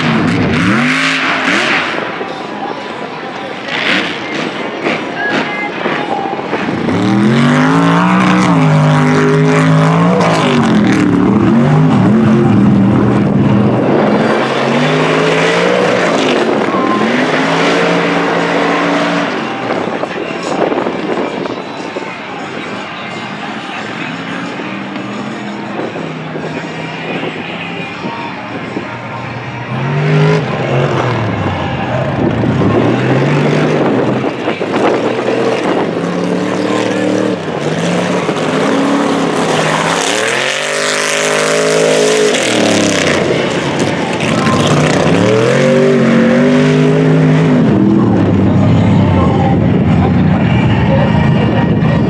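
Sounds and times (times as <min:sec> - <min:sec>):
truck engine revving: 0:00.0 - 0:52.0.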